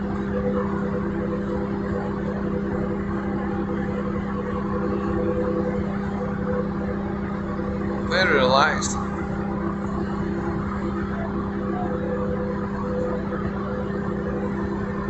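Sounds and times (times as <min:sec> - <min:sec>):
ferry diesel engines humming: 0:00.0 - 0:15.0.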